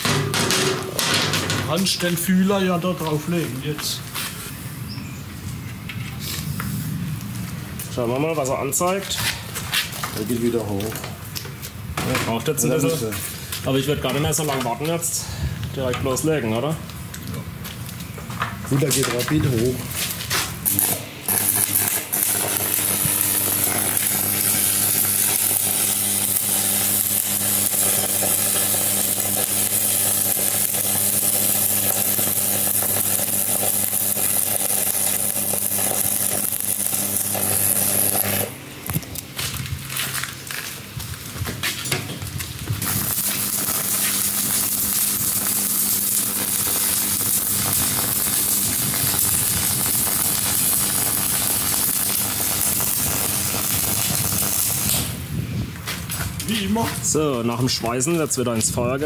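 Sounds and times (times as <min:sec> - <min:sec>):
welding arc crackling: 0:00.0 - 0:04.6, 0:06.4 - 0:59.0
electrical hum: 0:00.0 - 0:59.0.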